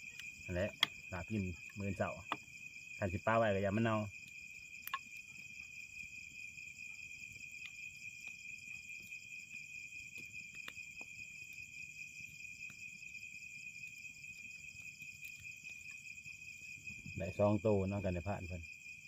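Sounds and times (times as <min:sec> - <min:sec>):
crickets trilling: 0:00.0 - 0:19.0
wood fire crackles: 0:00.0 - 0:19.0.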